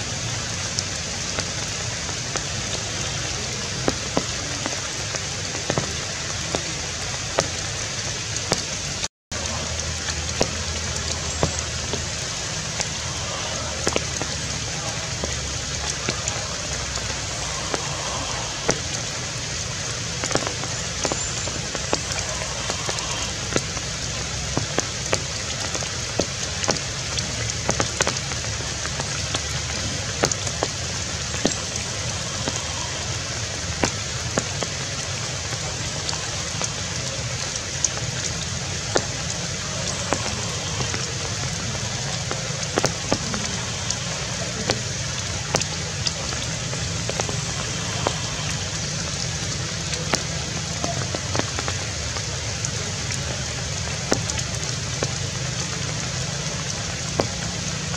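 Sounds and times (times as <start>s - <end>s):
rain on tree leaves: 0.0s - 57.9s.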